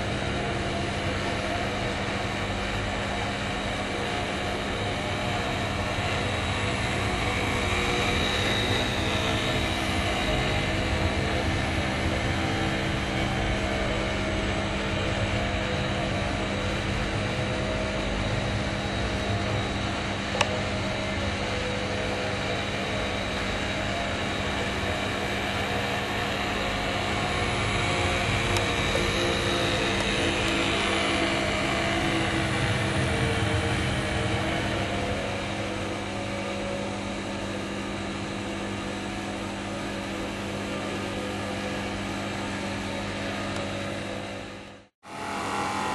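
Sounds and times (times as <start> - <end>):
small motor whirring hum: 0.0 - 45.9.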